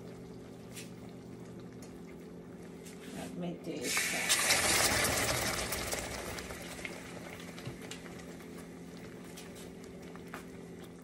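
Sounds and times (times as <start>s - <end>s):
fudge bubbling and sizzling in pot: 0.0s - 11.0s.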